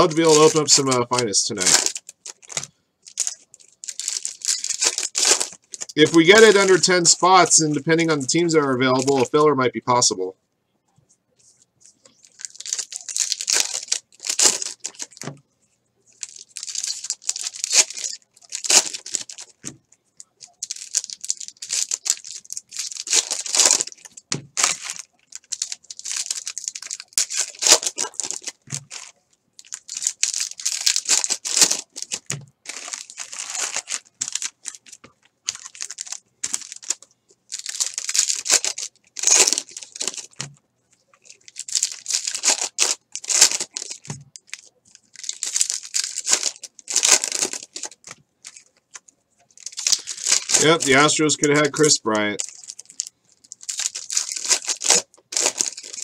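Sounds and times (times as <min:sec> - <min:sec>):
wrappers tearing and crinkling: 0:00.0 - 0:09.4, 0:11.9 - 0:15.4, 0:16.1 - 0:56.0.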